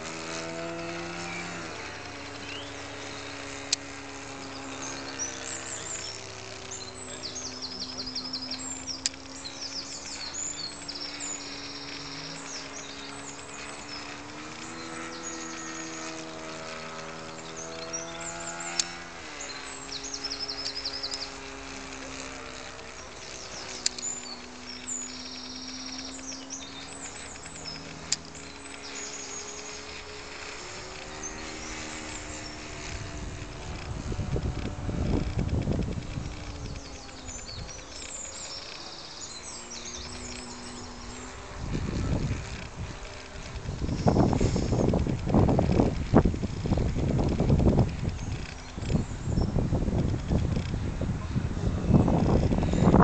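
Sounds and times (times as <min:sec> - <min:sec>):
birds chirping: 0:00.0 - 0:53.0
model airplane motor droning: 0:00.0 - 0:53.0.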